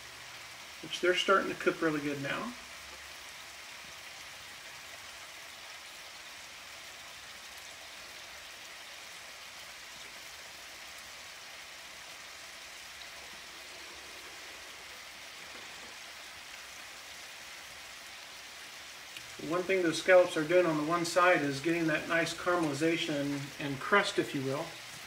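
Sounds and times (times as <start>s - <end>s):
scallops sizzling in a pan: 0.0s - 25.0s.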